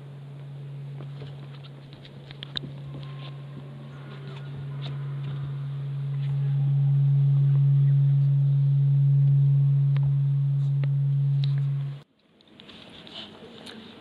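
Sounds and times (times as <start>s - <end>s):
large bell humming: 0.0s - 12.0s.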